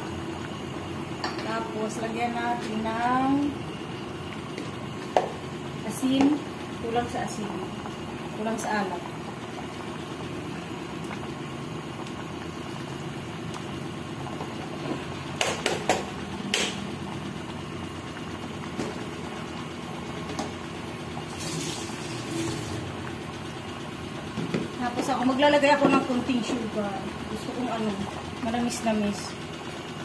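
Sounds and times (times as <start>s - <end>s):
stew bubbling in a pan: 0.0s - 30.0s.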